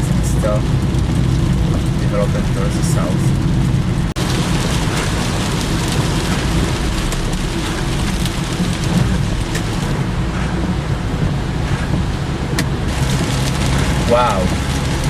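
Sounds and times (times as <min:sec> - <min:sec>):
rain and road noise in car: 0:00.0 - 0:15.0
raindrops ticking on car: 0:00.0 - 0:15.0.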